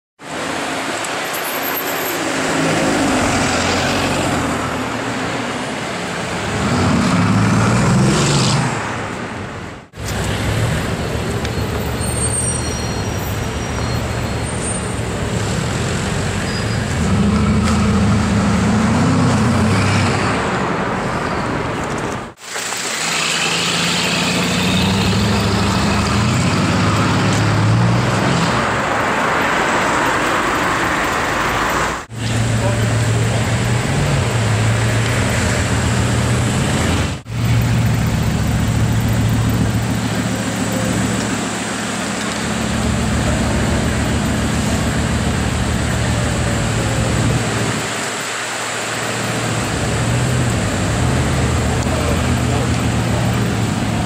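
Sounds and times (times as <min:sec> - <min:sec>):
street traffic: 0:00.2 - 0:54.0.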